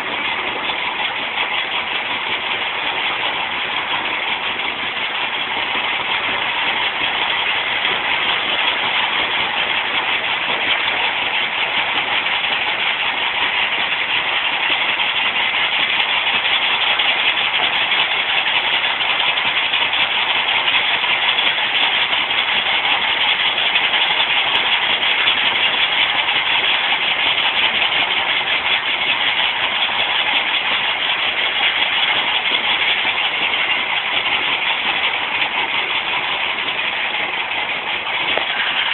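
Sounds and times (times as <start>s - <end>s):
stone crusher machine running: 0.0s - 38.9s.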